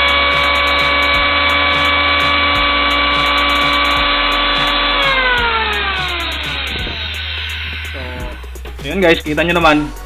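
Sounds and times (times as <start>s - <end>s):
electric hand planer whine: 0.0s - 8.6s.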